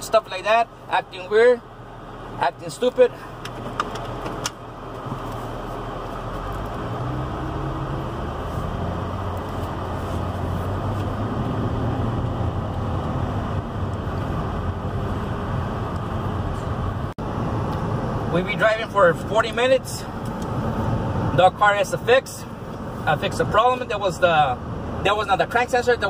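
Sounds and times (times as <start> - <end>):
car engine: 0.0 - 26.0
road noise: 0.0 - 26.0.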